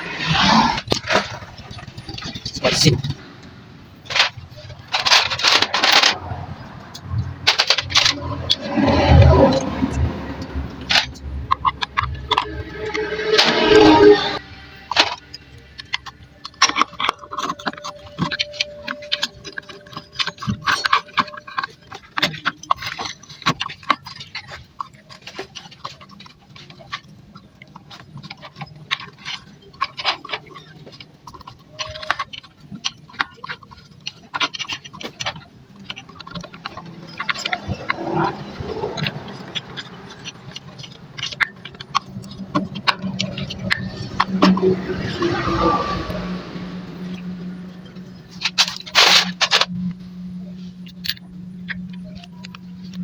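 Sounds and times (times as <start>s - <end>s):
clinks of hand tools and metal parts: 0.9s - 50.0s.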